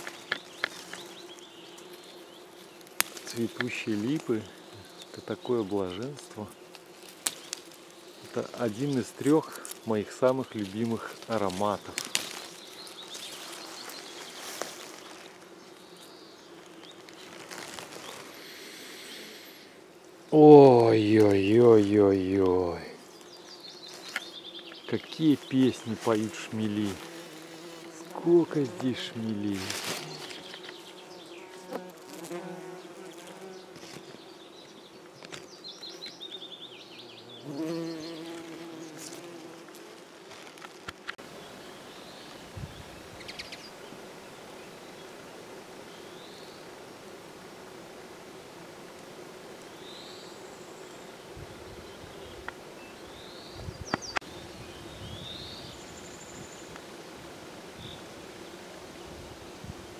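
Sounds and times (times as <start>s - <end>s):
bees buzzing: 0.0s - 59.9s
bumblebees humming: 0.0s - 59.9s.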